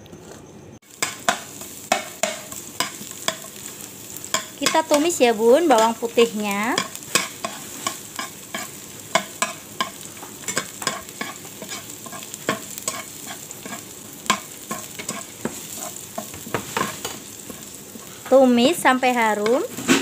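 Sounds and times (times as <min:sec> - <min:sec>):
garlic sizzling in oil: 0:00.8 - 0:20.0
spatula scraping and tapping pan: 0:01.0 - 0:20.0.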